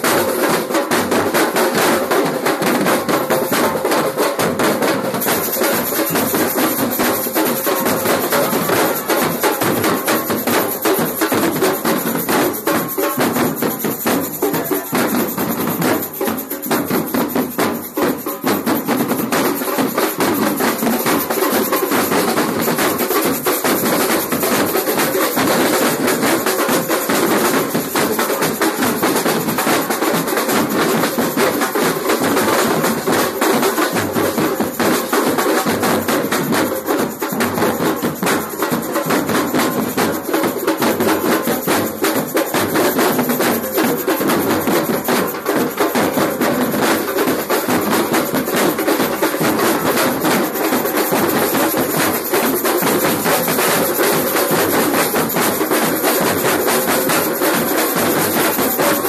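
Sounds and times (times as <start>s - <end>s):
percussion band drumming: 0.0s - 59.0s.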